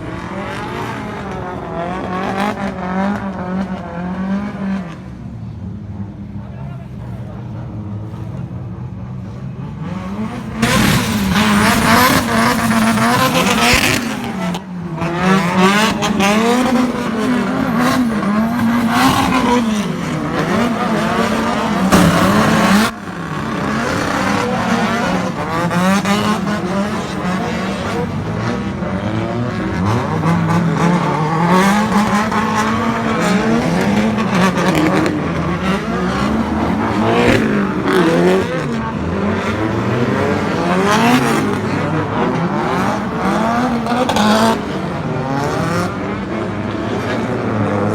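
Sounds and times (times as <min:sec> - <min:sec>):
car engines revving hard: 0:00.0 - 0:47.9.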